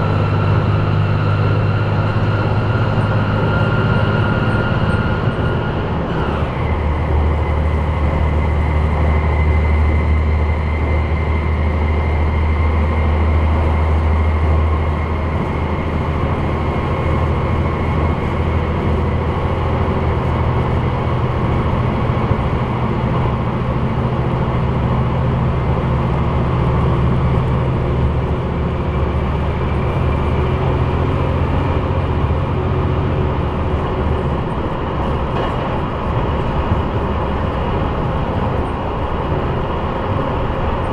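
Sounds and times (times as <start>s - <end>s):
diesel railcar engine drone: 0.0s - 40.9s
track rumble: 0.0s - 40.9s.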